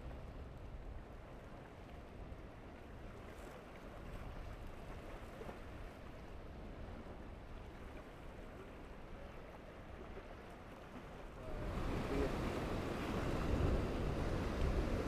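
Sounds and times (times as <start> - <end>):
surf: 0.0 - 15.0
wind: 0.0 - 15.0.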